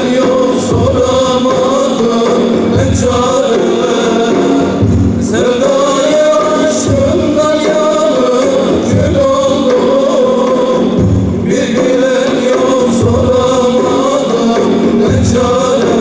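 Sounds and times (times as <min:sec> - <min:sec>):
large frame drums beating: 0:00.0 - 0:16.0
male vocal group singing: 0:00.0 - 0:16.0.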